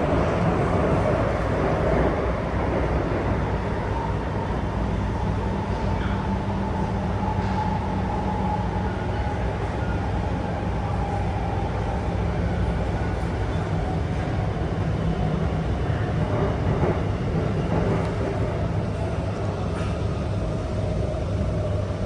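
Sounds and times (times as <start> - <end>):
metro train rumble: 0.0 - 22.0.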